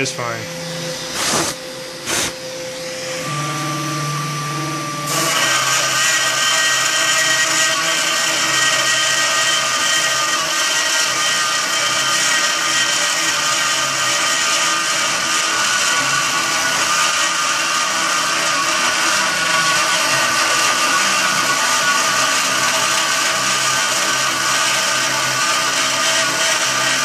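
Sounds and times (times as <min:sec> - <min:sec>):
router spindle motor whining: 0:00.0 - 0:27.0.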